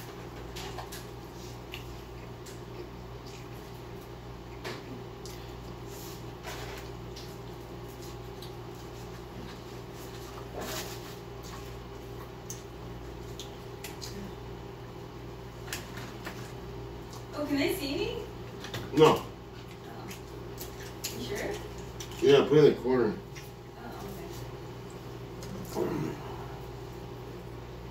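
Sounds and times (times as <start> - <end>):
quiet eating: 0.0 - 17.3, 18.3 - 27.9
room hum: 0.0 - 27.9.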